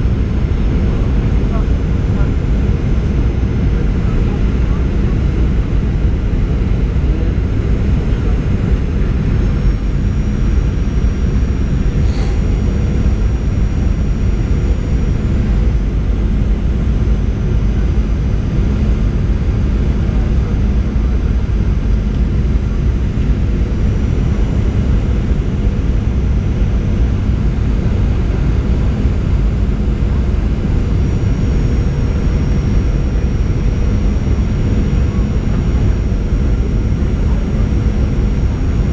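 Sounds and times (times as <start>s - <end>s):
faint steady hum: 0.0s - 38.9s
jet engine and airflow rumble: 0.0s - 38.9s.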